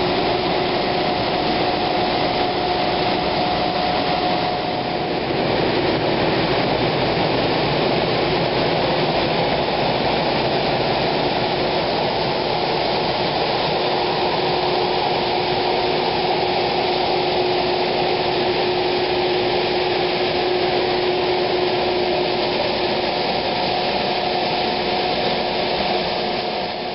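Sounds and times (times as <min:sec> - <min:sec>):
engine and pump drone: 0:00.0 - 0:26.9
steady whine: 0:00.0 - 0:26.9.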